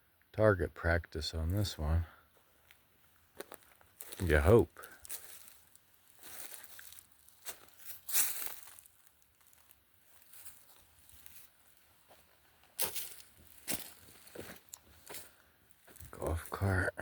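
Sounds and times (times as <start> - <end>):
footsteps crunching on dry ground: 1.4 - 16.9.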